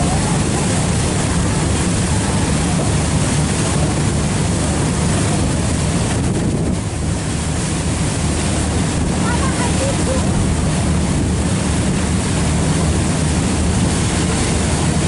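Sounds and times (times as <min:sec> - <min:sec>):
boat engine rumble: 0:00.0 - 0:15.0
water wash: 0:00.0 - 0:15.0
wind buffeting microphone: 0:00.0 - 0:15.0.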